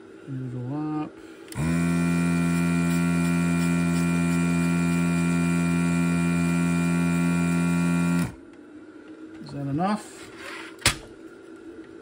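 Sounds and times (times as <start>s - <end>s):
desoldering pump humming: 0.1s - 12.0s.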